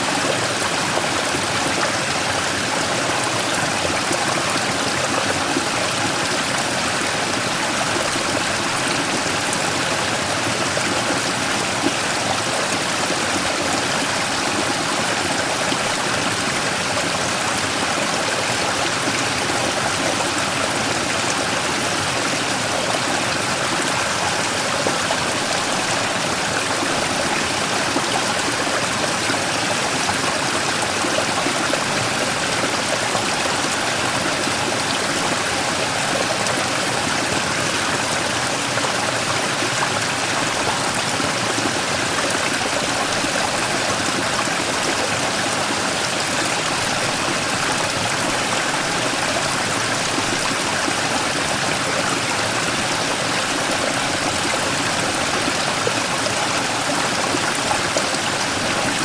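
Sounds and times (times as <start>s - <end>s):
stream rushing over rock: 0.0s - 59.0s.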